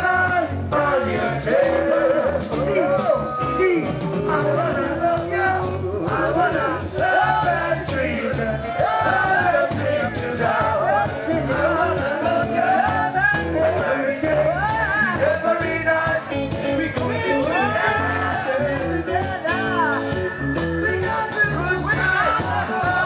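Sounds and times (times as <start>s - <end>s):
live reggae band: 0.0s - 23.0s.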